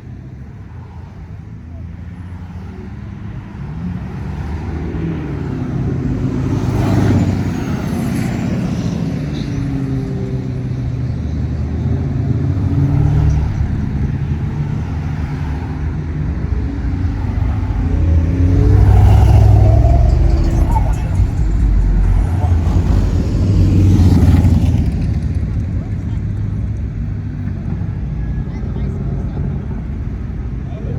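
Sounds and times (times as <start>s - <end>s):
car engines rumbling past: 0.0s - 30.9s.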